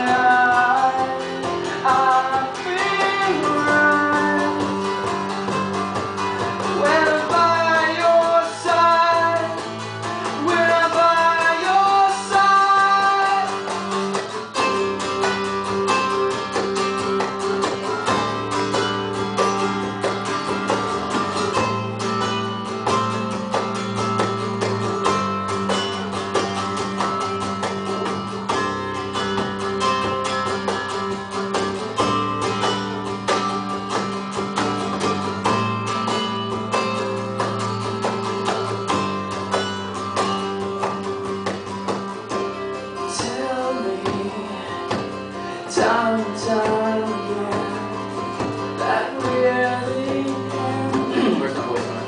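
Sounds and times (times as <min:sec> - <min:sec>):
acoustic guitar strumming: 0:00.0 - 0:52.0.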